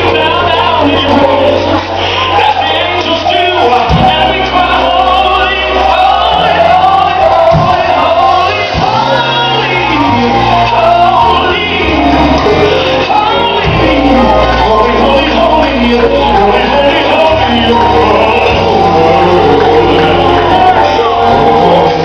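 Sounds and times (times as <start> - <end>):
choir singing: 0.0 - 22.0
held bass notes: 0.0 - 22.0
lead voices singing gospel: 0.0 - 22.0.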